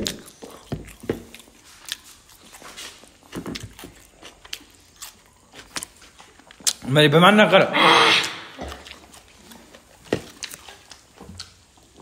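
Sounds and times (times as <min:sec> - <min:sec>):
chewing and crunching food: 0:00.0 - 0:07.0, 0:08.6 - 0:12.0.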